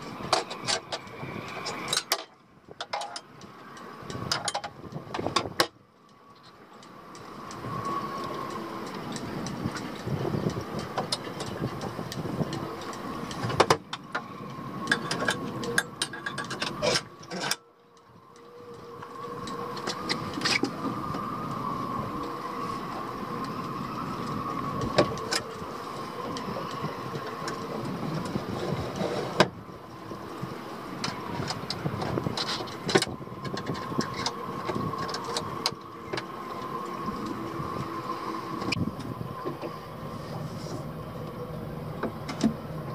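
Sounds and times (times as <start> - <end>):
steady mechanical hum: 0.0 - 42.9.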